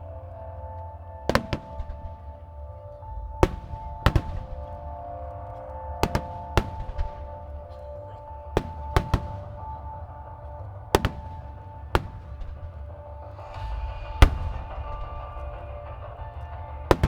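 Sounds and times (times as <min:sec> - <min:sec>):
low rumble: 0:00.0 - 0:17.0
music with held tones: 0:00.0 - 0:17.0
fireworks bursting in sharp bangs: 0:01.2 - 0:17.0.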